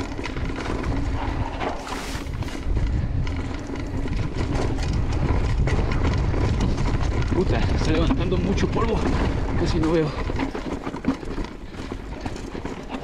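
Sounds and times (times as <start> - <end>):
bike rattling clicks and knocks: 0.0 - 13.0
tyres rolling over dirt: 0.0 - 13.0
wind buffeting microphone: 0.0 - 13.0.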